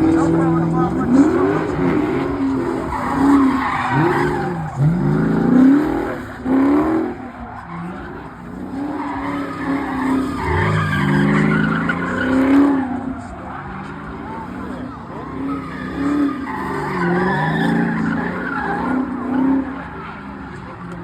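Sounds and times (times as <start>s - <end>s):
car engine revving: 0.0s - 21.0s
tyres squealing: 0.0s - 21.0s.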